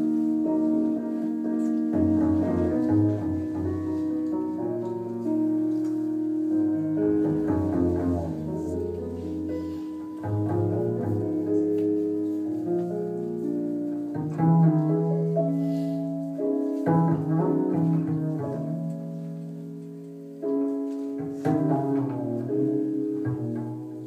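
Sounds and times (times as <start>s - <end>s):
slow low string music: 0.0s - 24.0s.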